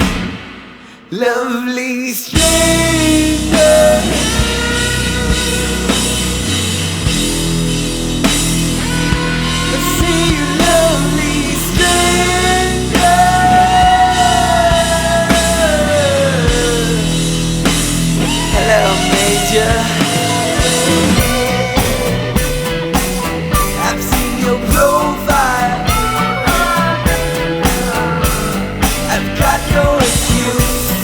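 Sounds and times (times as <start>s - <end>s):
rock band playing: 0.0s - 1.1s, 2.4s - 31.0s
sliding melodic lead: 2.4s - 31.0s.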